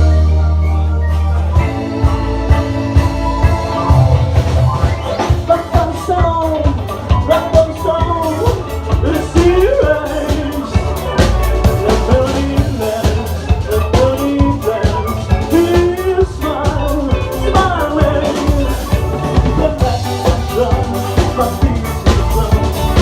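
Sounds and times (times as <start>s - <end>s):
drum kit: 0.0s - 23.0s
heavy bass: 0.0s - 23.0s
live rock band playing: 0.0s - 23.0s
melodic lead guitar line: 0.0s - 23.0s.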